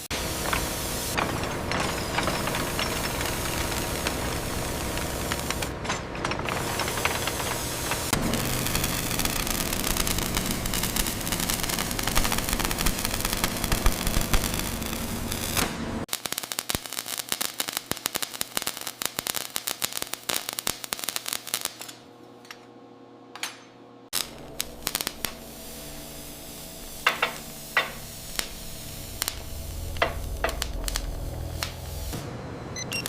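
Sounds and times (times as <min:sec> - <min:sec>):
low machine hum: 0:00.0 - 0:16.1, 0:22.1 - 0:33.0
rapid crackling clicks: 0:00.0 - 0:22.0, 0:24.2 - 0:32.2.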